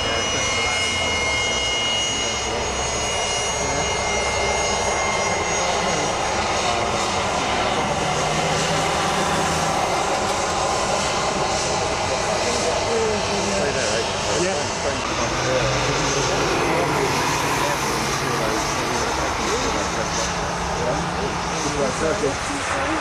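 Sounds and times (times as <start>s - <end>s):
jet engines with high whine: 0.0s - 23.0s.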